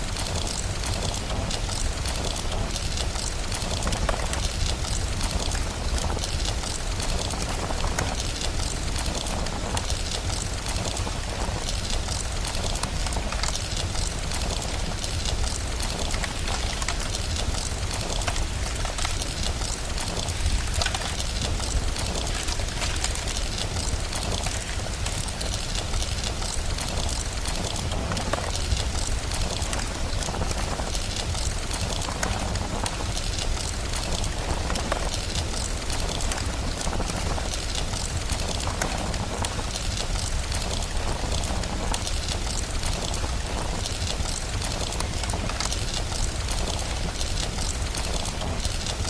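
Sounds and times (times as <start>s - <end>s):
fire crackles: 0.0s - 49.0s
rain hiss: 0.0s - 49.0s.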